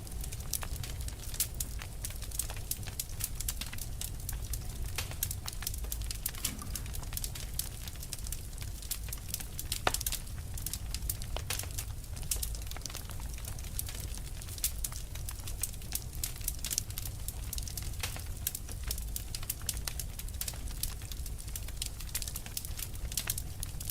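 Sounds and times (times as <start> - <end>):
low fire rumble: 0.0 - 23.9
wood fire crackling and popping: 0.0 - 23.9.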